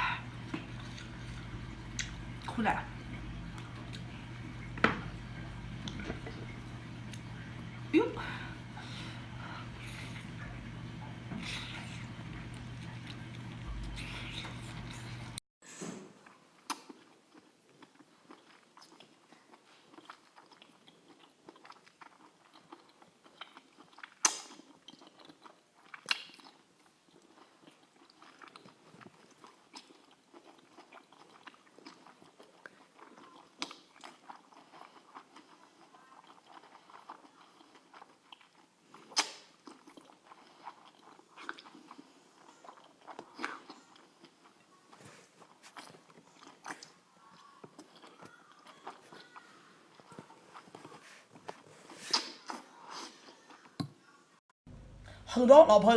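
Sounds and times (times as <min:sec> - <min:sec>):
person chewing with wet mouth noises: 0:00.0 - 0:04.6, 0:08.5 - 0:15.4, 0:16.6 - 0:53.9.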